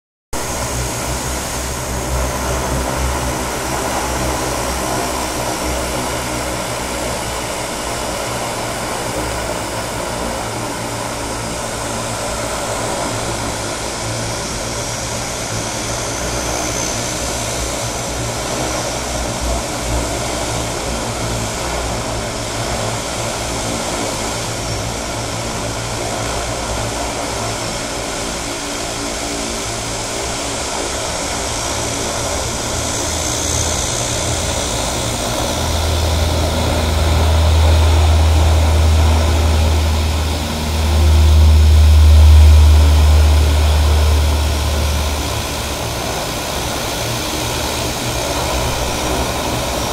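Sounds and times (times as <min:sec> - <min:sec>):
constant rushing noise: 0:00.4 - 0:49.9
propeller engines droning: 0:00.4 - 0:49.9.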